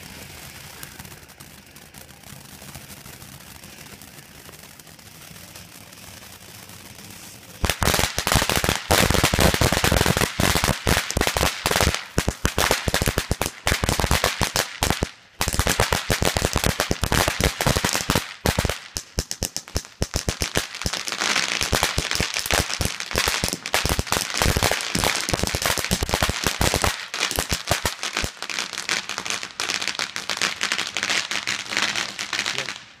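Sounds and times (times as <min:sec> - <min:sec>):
firework fountain crackling: 0:00.0 - 0:33.0.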